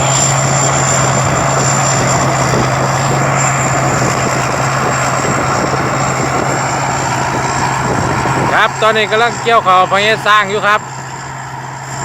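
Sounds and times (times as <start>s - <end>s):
combine harvester engine drone: 0.0s - 12.0s
high whine: 0.0s - 12.0s.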